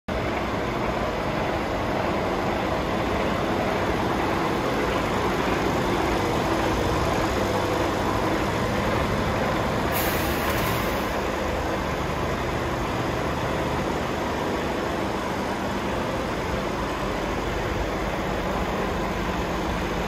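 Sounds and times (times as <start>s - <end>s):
diesel engine idling: 0.1s - 20.0s.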